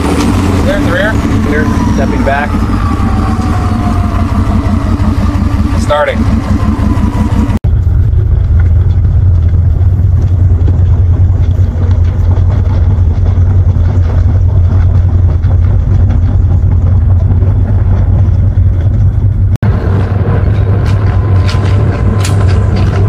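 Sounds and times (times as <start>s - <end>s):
tank diesel engine rumbling: 0.0s - 23.0s.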